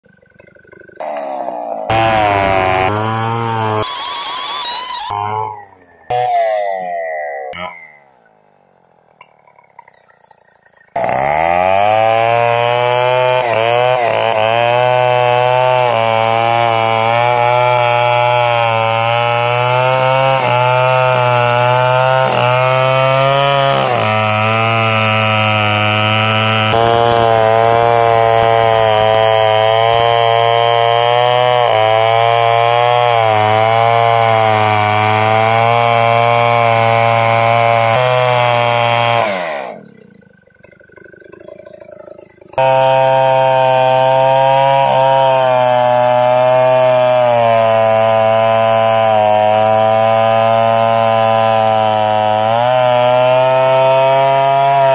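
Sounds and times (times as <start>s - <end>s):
chainsaw cutting tree trunk: 0.0s - 54.9s.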